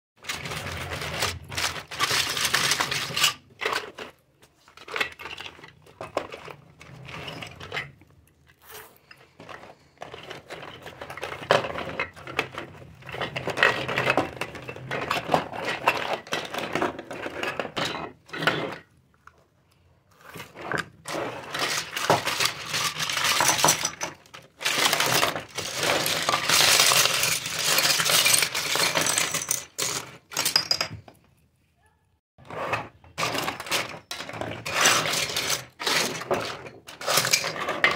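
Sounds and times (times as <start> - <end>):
plastic toy pieces clattering: 0.2 - 18.9, 20.3 - 31.2, 33.1 - 37.9.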